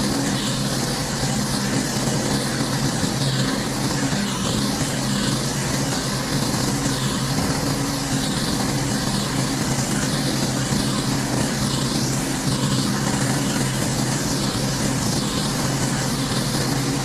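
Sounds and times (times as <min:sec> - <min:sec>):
pressure washer engine running: 0:00.0 - 0:17.0.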